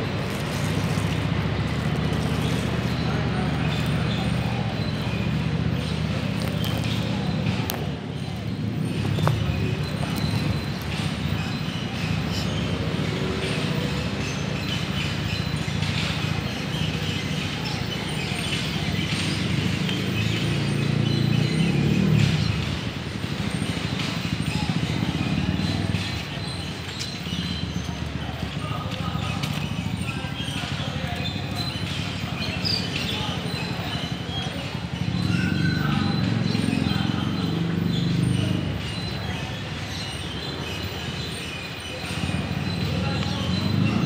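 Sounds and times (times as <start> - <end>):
faint voices: 0.0 - 44.0.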